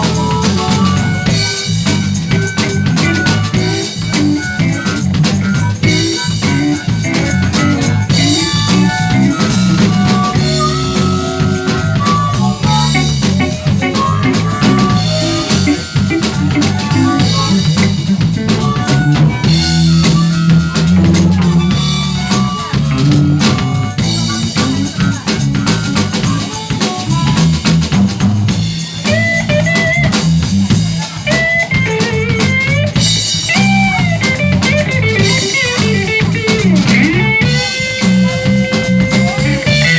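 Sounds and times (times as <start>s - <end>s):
lead guitar bending notes: 0.0s - 28.5s, 29.1s - 39.9s
bass line: 0.0s - 39.9s
drum kit with rimshots: 0.0s - 39.9s
guitar: 0.0s - 39.9s.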